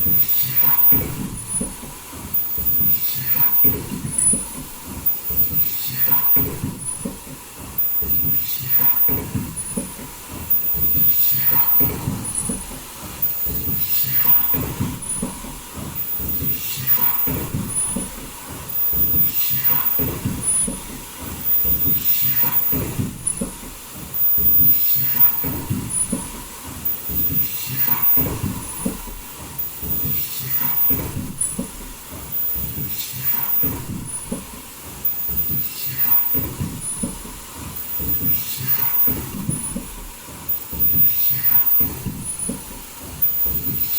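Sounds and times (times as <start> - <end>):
mechanical clatter: 0.0 - 43.9.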